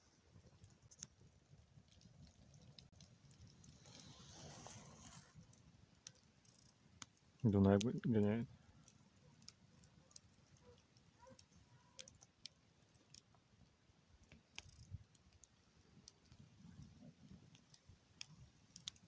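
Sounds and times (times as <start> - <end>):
faint clicks: 0.5 - 7.9, 8.6 - 13.4, 14.2 - 19.0.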